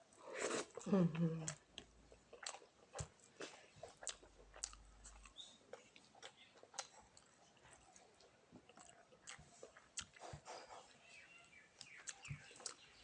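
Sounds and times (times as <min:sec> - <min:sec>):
person chewing food: 0:00.0 - 0:11.0, 0:11.6 - 0:13.0.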